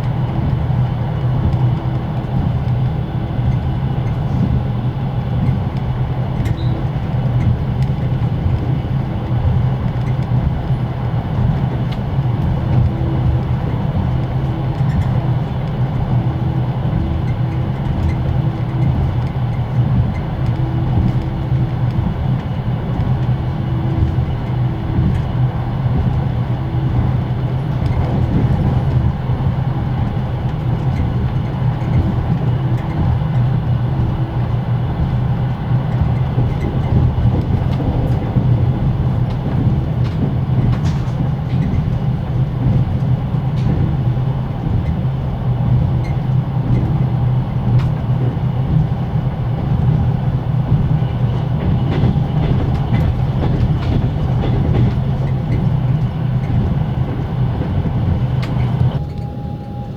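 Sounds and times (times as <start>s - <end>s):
train running gear rumble: 0.0s - 59.9s
train wheels clattering: 5.3s - 59.9s
generator whine: 8.3s - 59.9s.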